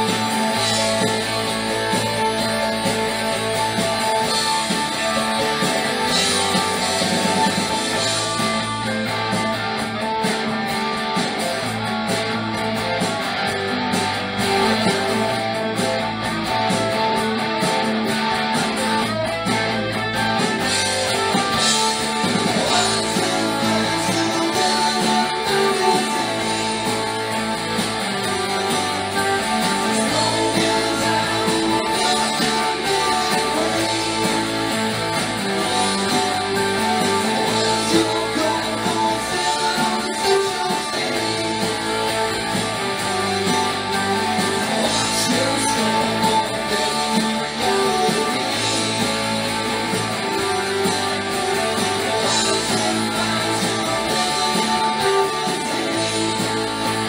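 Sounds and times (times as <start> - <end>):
rock band with electric guitar: 0.0 - 57.0.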